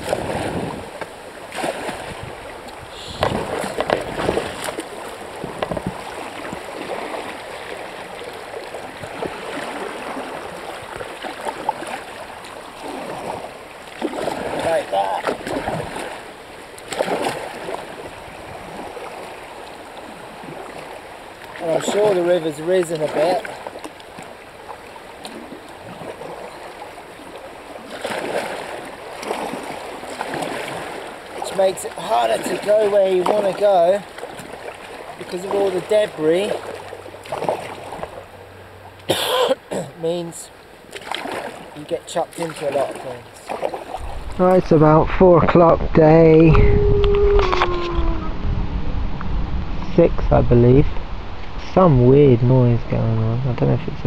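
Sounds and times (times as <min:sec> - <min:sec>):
paddle strokes splashing water: 0:00.0 - 0:39.2, 0:40.0 - 0:45.0
river flowing: 0:00.0 - 0:53.1.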